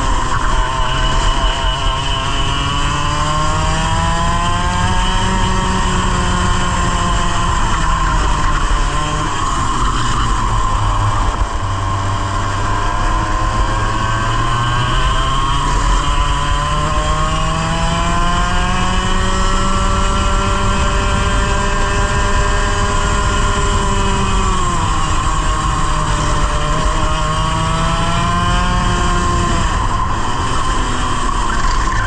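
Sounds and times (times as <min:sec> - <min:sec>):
kart engine revving: 0:00.0 - 0:32.0
wind noise: 0:00.0 - 0:32.0.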